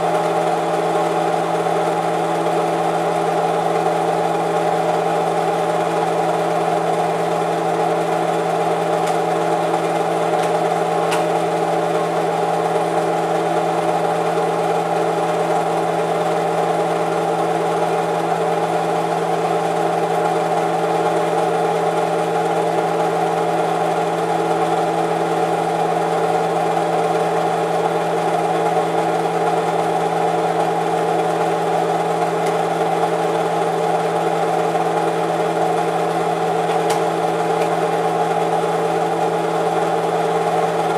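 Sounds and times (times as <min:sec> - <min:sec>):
film projector humming and whirring: 0:00.0 - 0:40.9.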